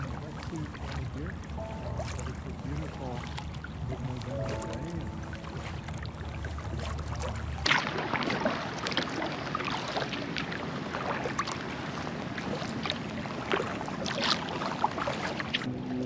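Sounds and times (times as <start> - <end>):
kayak paddle strokes in water: 0.0 - 15.7
small water splashes and drips: 0.0 - 15.7
steady water wash: 0.0 - 16.0.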